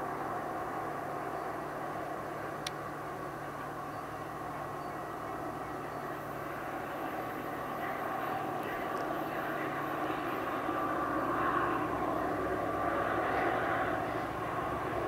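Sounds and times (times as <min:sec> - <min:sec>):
distant locomotive engine drone: 0:00.0 - 0:15.0.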